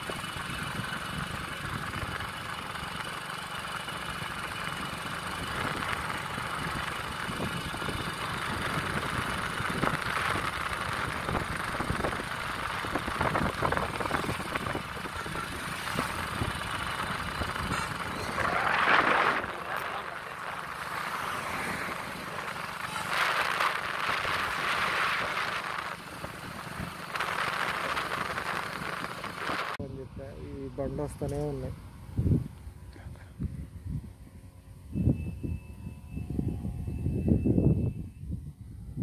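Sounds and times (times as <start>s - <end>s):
crackly buffeting: 0.0s - 35.5s
vehicle engine hum: 0.0s - 39.0s.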